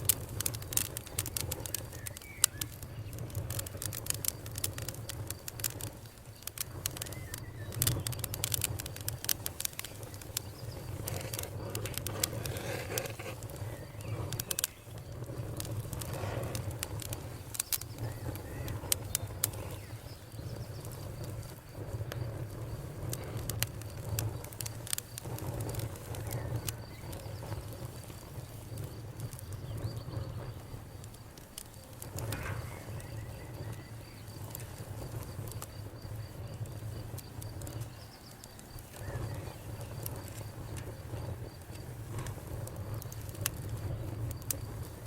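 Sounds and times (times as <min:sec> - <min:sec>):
campfire crackling and popping: 0:00.0 - 0:45.0
low fire rumble: 0:00.0 - 0:45.0.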